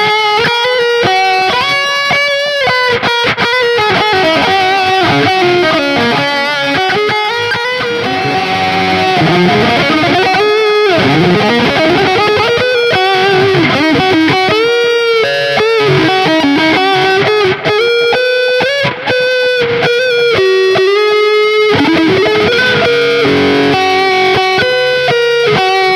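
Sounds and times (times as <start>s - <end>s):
electric guitar lead with vibrato: 0.0s - 25.9s.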